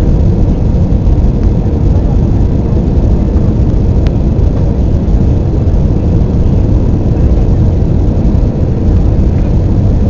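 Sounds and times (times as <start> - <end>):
airplane engines rumbling: 0.0 - 10.0
faint steady hum: 0.0 - 10.0
rushing air: 0.0 - 10.0.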